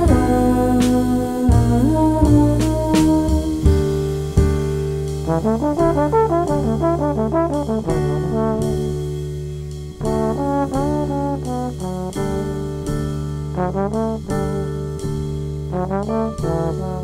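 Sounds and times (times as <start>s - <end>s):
jazz combo playing: 0.0s - 17.0s
trombone soloing: 0.0s - 17.0s.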